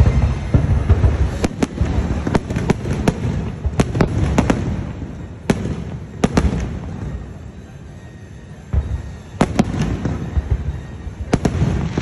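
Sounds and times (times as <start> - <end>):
low rumble of bursts: 0.0 - 12.0.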